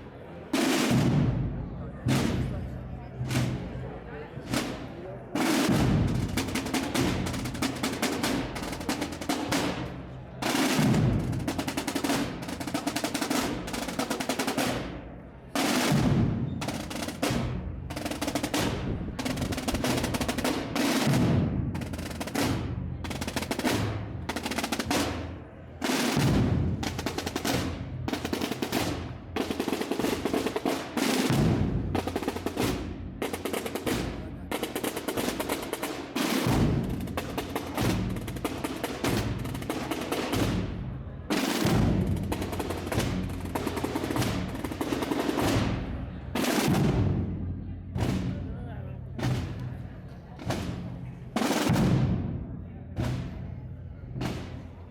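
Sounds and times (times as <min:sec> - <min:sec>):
massed drums rolling beat: 0:00.1 - 0:54.9.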